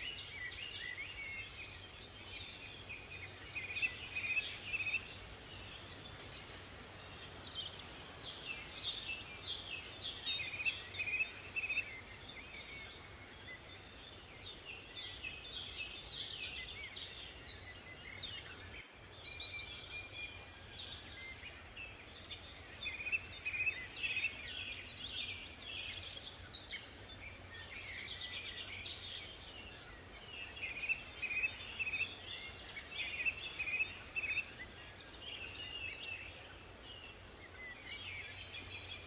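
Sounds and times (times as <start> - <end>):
songbirds chirping and singing: 0.0 - 39.0
steady background hiss: 0.0 - 39.0.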